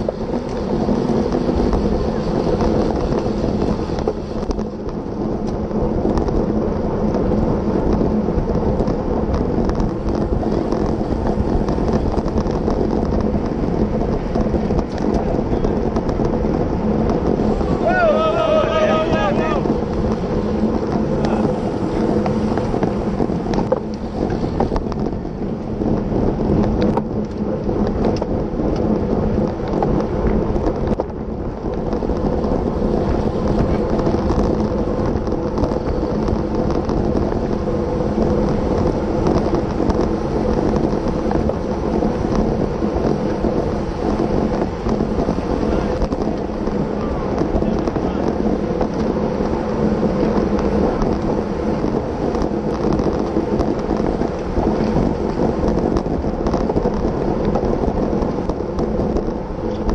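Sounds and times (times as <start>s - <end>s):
bicycle tyres rolling on asphalt: 0.0s - 59.9s
wind rushing over microphone: 0.0s - 59.9s.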